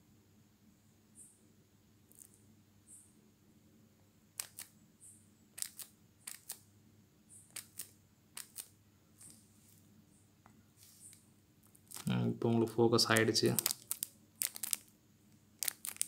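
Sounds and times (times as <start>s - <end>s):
faint low hum: 0.0s - 15.9s.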